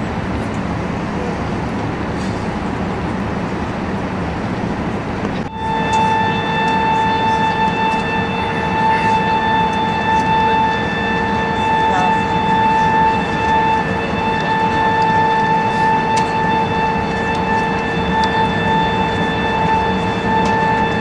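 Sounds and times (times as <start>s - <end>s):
airplane cabin rumble: 0.0s - 21.0s
steady high whine: 0.0s - 21.0s.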